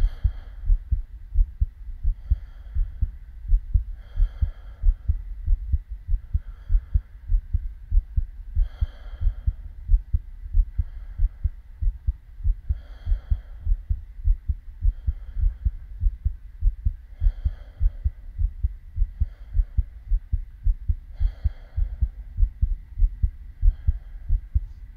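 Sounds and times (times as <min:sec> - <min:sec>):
heartbeat thumps: 0:00.0 - 0:24.9
soft hiss: 0:00.0 - 0:24.9.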